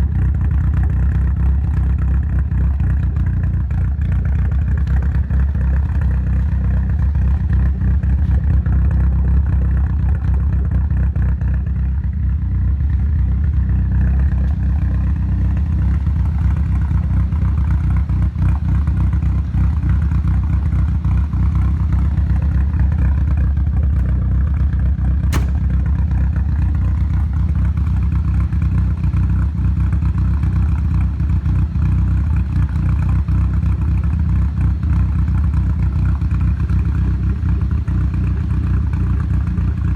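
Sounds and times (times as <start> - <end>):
car engine rough idle: 0.0 - 39.9.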